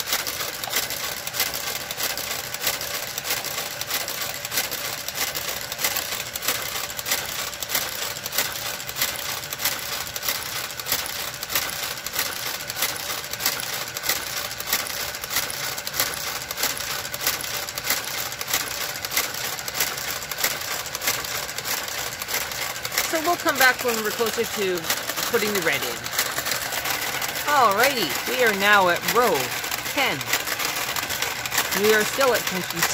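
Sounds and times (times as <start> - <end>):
faint motor hum: 0.0 - 32.9
knitting machine carriage clicking: 0.0 - 32.9.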